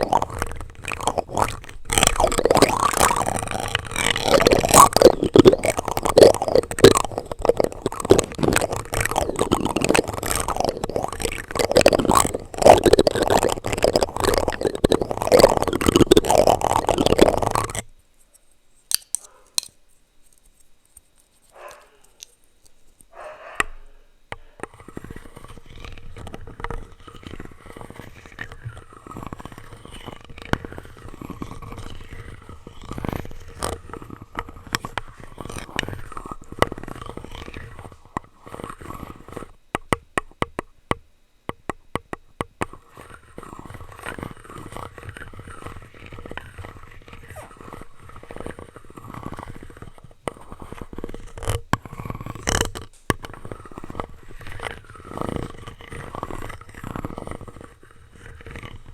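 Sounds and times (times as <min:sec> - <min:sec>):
plastic scraping on microphone: 0:00.0 - 0:18.5, 0:19.2 - 0:58.9.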